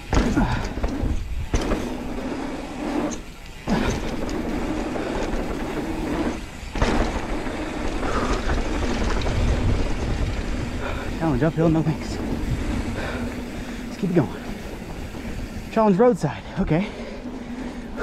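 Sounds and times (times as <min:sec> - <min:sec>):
bike rattling over bumps: 0:00.0 - 0:18.0
bike tyres rolling on dirt: 0:00.0 - 0:18.0.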